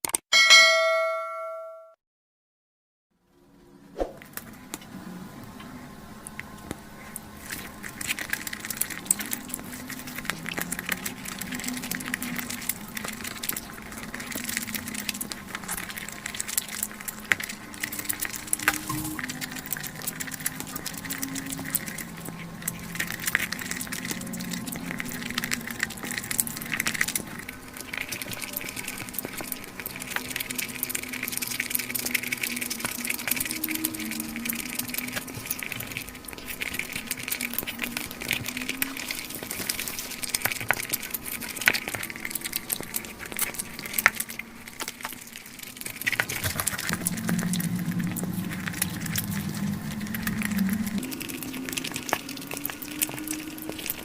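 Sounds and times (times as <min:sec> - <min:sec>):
crunching and chewing fried chicken: 0:04.2 - 0:54.0.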